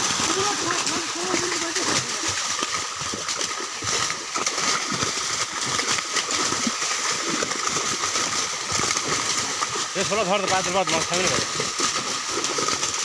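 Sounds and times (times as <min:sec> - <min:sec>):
fish splashing in shallow water: 0:00.0 - 0:13.0.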